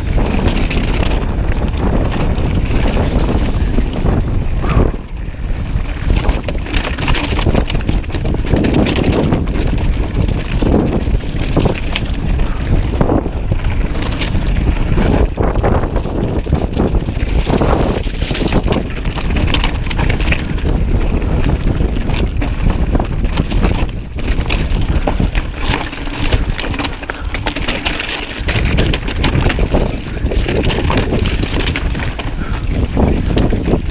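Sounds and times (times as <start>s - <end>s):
bike tyres crunching over stones: 0.0s - 33.9s
wind buffeting microphone: 0.0s - 33.9s.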